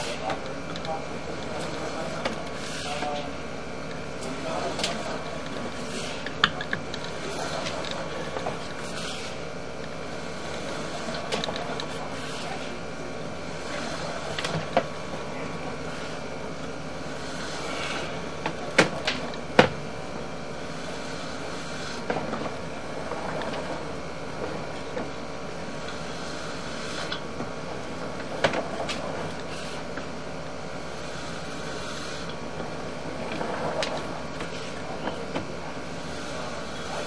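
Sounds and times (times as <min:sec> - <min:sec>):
cable reel mechanical running: 0:00.0 - 0:37.0.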